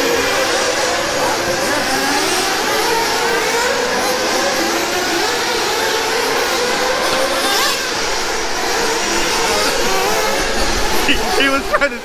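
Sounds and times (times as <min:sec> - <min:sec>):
rc car engines whining: 0:00.0 - 0:12.0.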